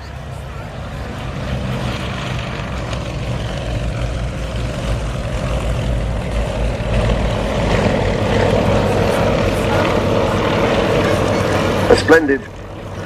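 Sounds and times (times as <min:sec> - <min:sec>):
radial aircraft engine droning overhead: 0:00.0 - 0:13.0.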